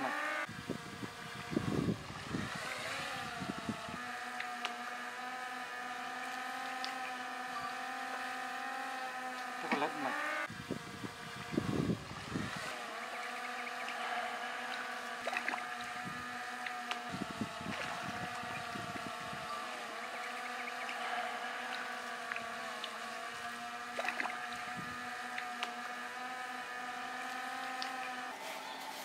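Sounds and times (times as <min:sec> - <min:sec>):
small motor humming: 0:00.0 - 0:29.0.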